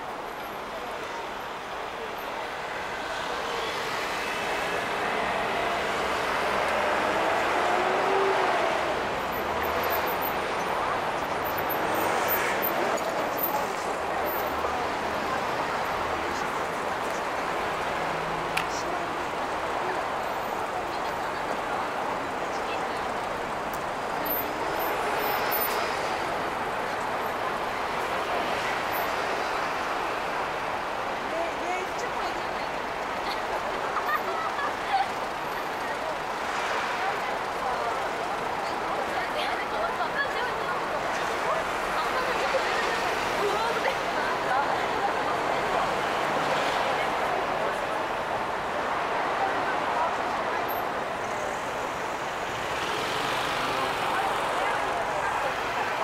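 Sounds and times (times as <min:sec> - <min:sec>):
city street traffic: 0:00.0 - 0:56.0
passing cars and buses: 0:00.0 - 0:56.0.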